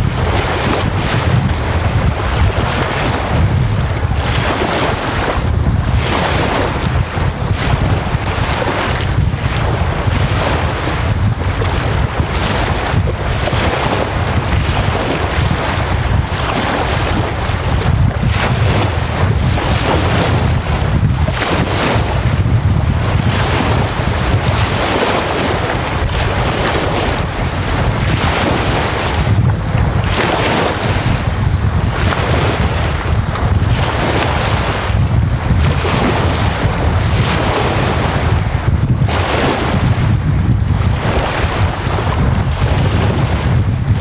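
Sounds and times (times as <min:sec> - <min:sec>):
waves washing up a beach: 0:00.0 - 0:44.0
wind rumbling on microphone: 0:00.0 - 0:44.0.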